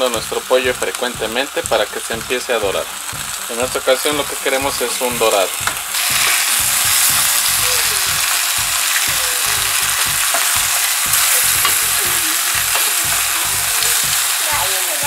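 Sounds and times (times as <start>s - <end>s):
chicken sizzling in a pot: 0.0s - 15.0s
tongs knocking in a pot: 0.8s - 14.4s.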